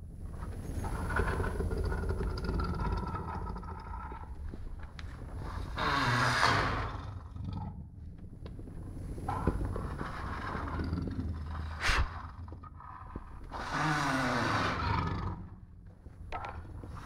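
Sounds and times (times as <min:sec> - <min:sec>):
jaguar snarling and growling: 0:00.6 - 0:04.6, 0:05.2 - 0:08.0, 0:08.7 - 0:15.8.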